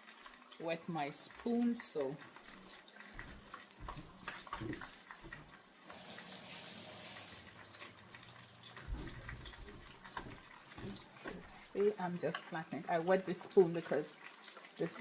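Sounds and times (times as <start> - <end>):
kitchen tap running: 0.0 - 15.0.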